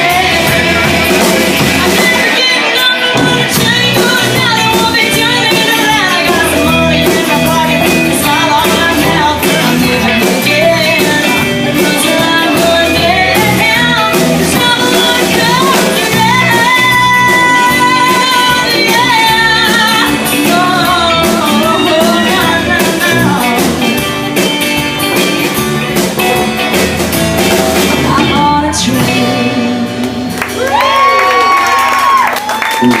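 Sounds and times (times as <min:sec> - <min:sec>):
woman singing: 0:00.0 - 0:24.1, 0:27.8 - 0:31.1
acoustic guitar: 0:00.0 - 0:31.2
drums beating: 0:00.0 - 0:33.0.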